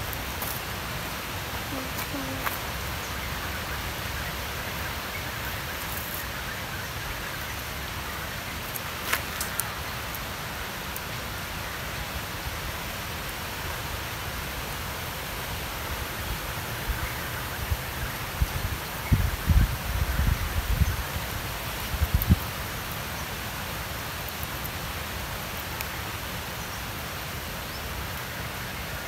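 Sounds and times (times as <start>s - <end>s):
outdoor background hiss: 0.0s - 29.0s.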